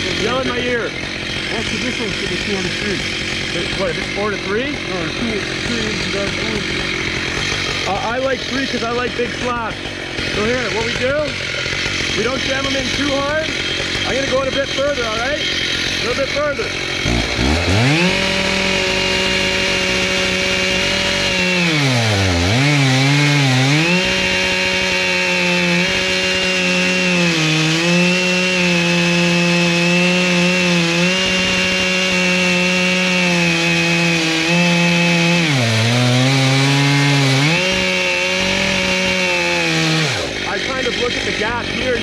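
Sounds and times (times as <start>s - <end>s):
chainsaw ripping log: 0.0s - 42.0s.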